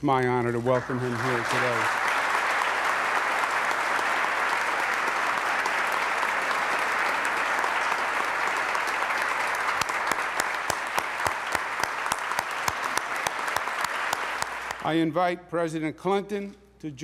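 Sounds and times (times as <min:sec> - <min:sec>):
audience clapping: 0:00.0 - 0:15.0.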